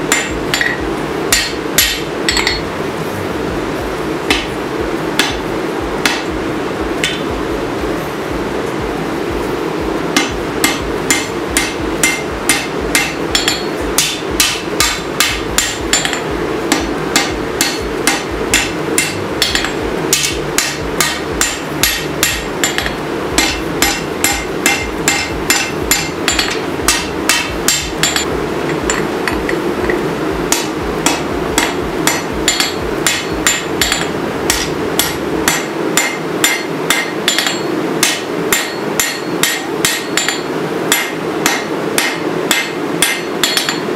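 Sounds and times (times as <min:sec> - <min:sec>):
hammer striking steel on anvil: 0:00.0 - 0:02.7, 0:04.3 - 0:04.6, 0:05.2 - 0:06.3, 0:07.0 - 0:07.3, 0:10.1 - 0:43.9
low background hum: 0:00.0 - 0:43.9.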